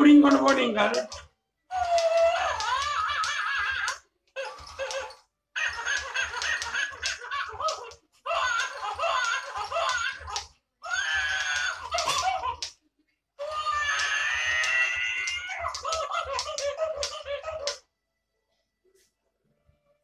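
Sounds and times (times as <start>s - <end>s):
toy monkey chattering and laughter: 0.0s - 17.9s.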